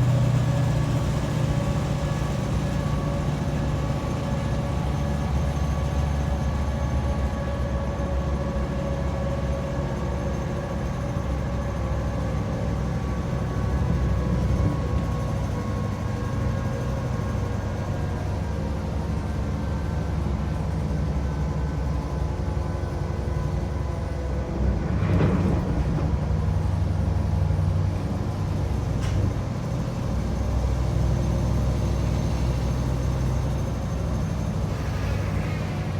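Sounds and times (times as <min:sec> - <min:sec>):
diesel engine drone: 0:00.0 - 0:35.9.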